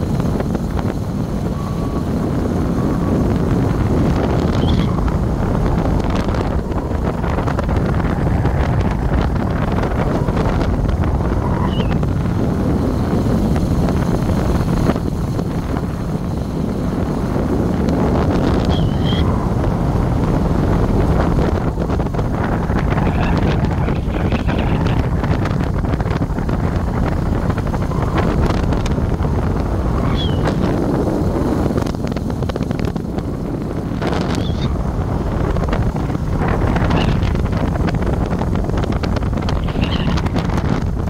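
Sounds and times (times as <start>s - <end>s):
highway road noise: 0.0s - 41.0s
wind buffeting microphone: 0.0s - 41.0s.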